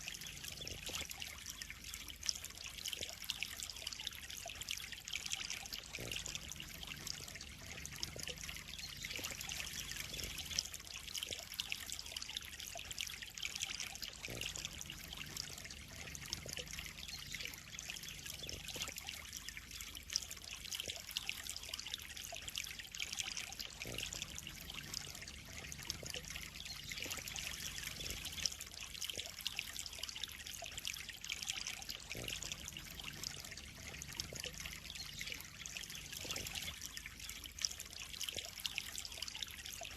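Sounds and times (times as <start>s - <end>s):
pond water trickling and splashing: 0.0s - 39.9s.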